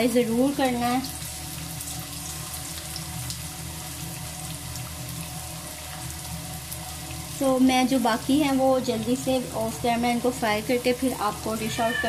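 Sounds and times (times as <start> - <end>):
meat deep-frying in oil: 0.0 - 12.0.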